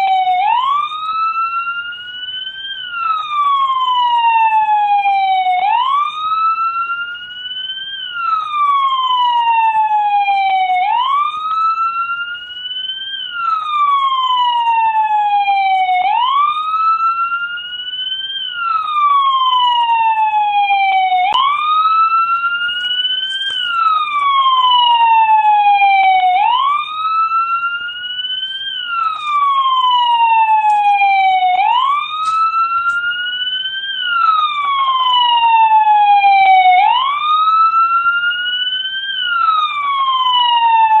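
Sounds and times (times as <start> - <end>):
police siren wailing: 0.0 - 41.0.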